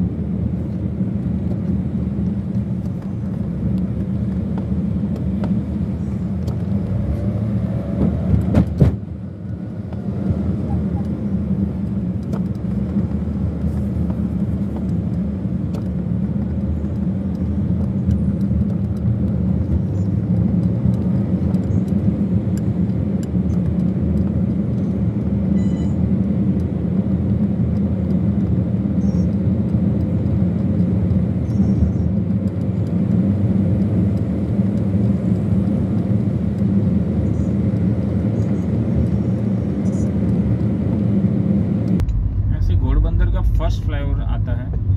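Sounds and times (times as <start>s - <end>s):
vehicle rumble in traffic: 0.0s - 44.9s.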